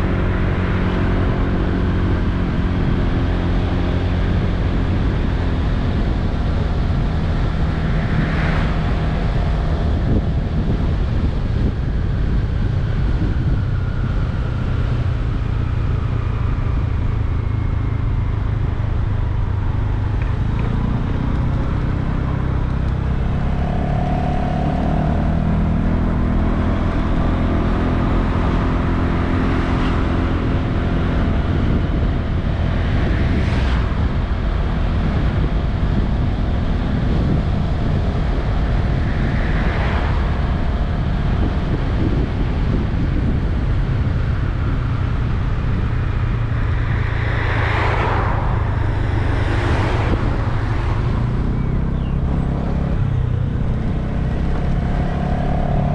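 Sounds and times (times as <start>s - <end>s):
vehicles passing: 0.0s - 55.9s
wind and road noise: 0.0s - 55.9s.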